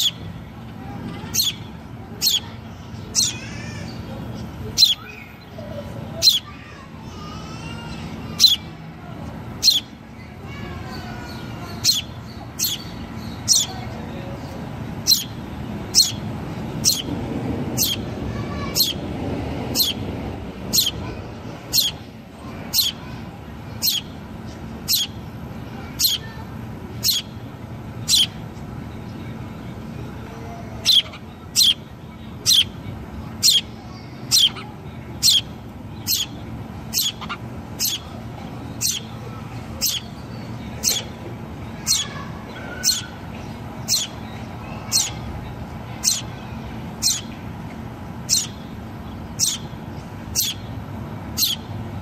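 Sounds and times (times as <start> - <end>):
sparrow chirping: 0.0 - 0.4, 1.1 - 6.5, 7.9 - 8.8, 9.6 - 29.4, 30.8 - 45.3, 46.0 - 46.3, 46.9 - 47.5, 48.2 - 51.8.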